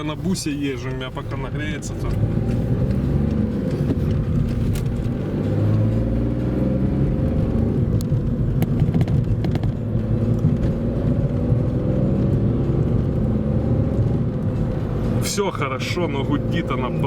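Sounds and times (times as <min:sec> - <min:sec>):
diesel engine droning in car cabin: 0:00.0 - 0:17.0.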